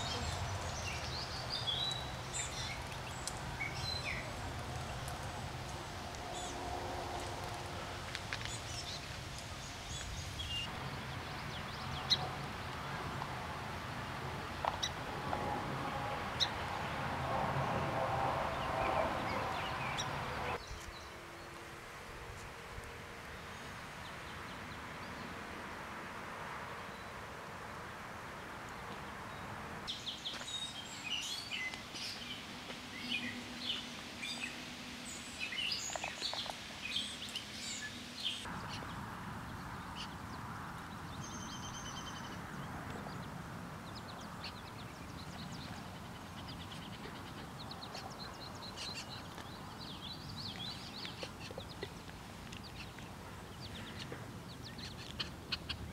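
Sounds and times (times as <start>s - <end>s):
birds chirping: 0.0s - 21.7s, 28.4s - 55.9s
steady outdoor hiss: 0.0s - 55.9s.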